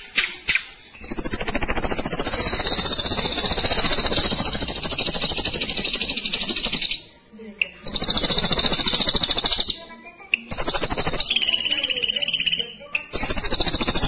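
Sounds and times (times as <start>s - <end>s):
bird singing rolling trill: 1.0s - 14.0s.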